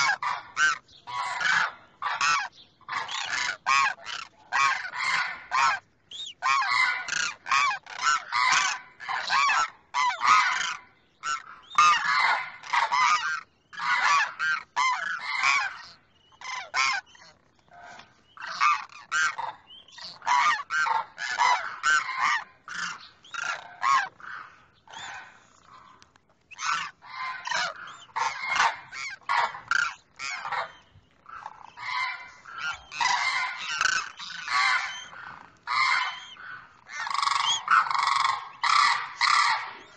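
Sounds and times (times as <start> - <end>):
cranes calling: 0.0 - 39.9.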